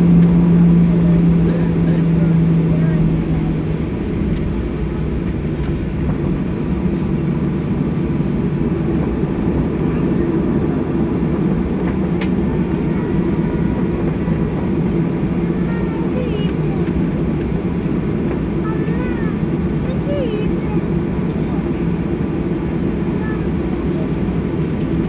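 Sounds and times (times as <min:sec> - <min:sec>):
jet engines and wheels rumbling: 0:00.0 - 0:25.0.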